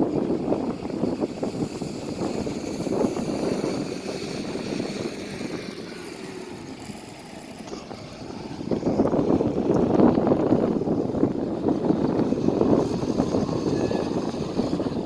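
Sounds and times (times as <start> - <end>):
heavy machinery engine drone: 0.0 - 15.0.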